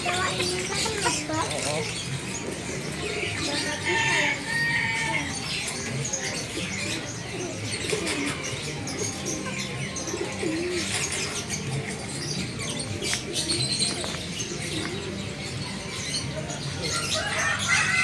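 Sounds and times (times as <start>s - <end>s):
doves cooing: 0.0s - 18.0s
small birds chirping: 0.0s - 18.0s.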